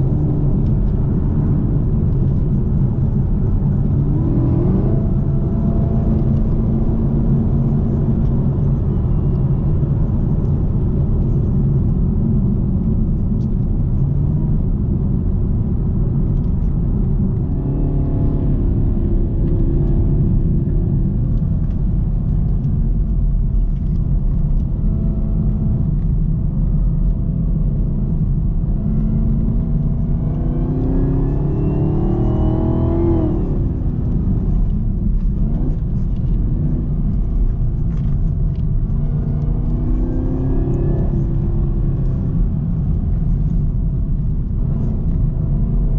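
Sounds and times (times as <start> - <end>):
car engine running: 0.0 - 45.9
supercharger whine: 0.0 - 45.9.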